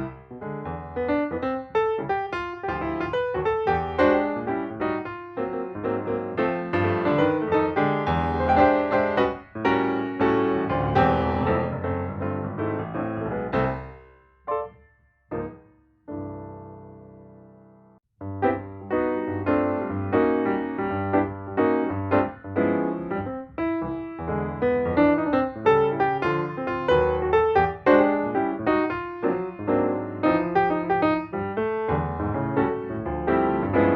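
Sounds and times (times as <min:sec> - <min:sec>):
piano music: 0:00.0 - 0:33.9.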